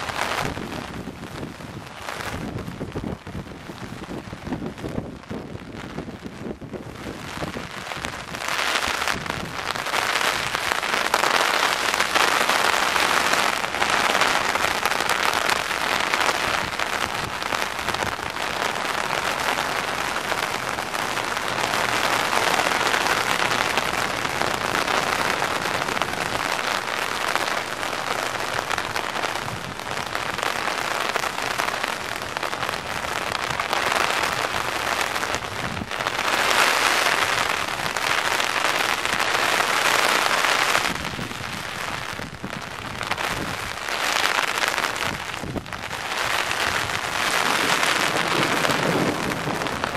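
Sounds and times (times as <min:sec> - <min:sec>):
heavy rain on umbrella: 0:00.0 - 0:49.9.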